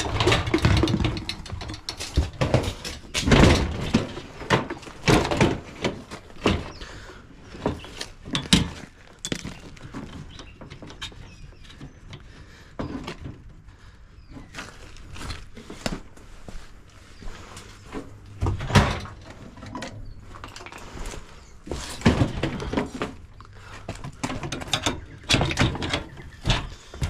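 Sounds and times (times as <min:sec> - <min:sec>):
metal and plastic parts clattering: 0:00.0 - 0:13.5, 0:18.4 - 0:27.0.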